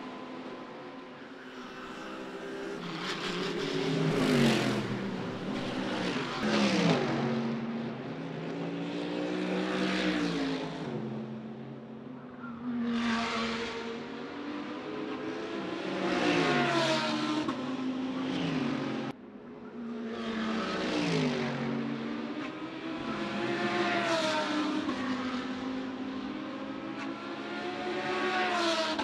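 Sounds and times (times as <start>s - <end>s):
race car engine at full throttle: 0.0s - 29.0s.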